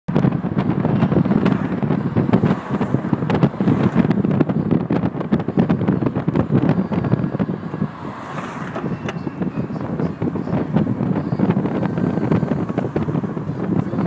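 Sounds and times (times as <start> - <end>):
road and traffic noise: 0.1 - 14.0
wind buffeting microphone: 0.1 - 14.0.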